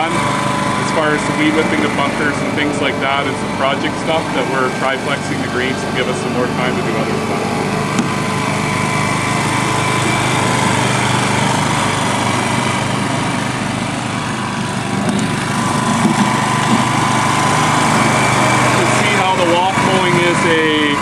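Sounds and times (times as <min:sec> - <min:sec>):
reel mower petrol engine running: 0:00.0 - 0:21.0.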